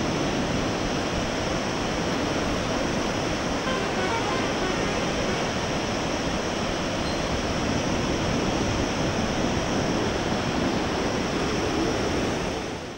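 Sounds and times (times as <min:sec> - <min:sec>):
river rapids rushing: 0:00.0 - 0:12.9.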